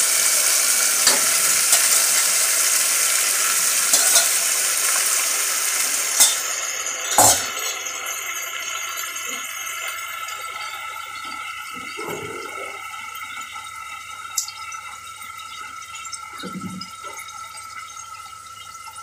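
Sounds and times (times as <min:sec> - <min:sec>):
chicken sizzling in oil: 0:00.0 - 0:16.4.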